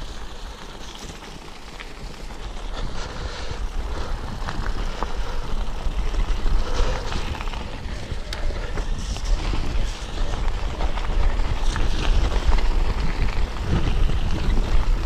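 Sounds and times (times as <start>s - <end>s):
tyres rolling over gravel: 0.0s - 15.0s
wind buffeting microphone: 0.0s - 15.0s
bike rattling clicks: 0.1s - 15.0s.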